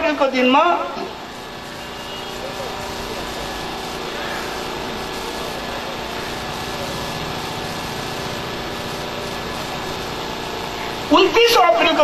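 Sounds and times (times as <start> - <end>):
engine drone with hiss: 0.2 - 12.0.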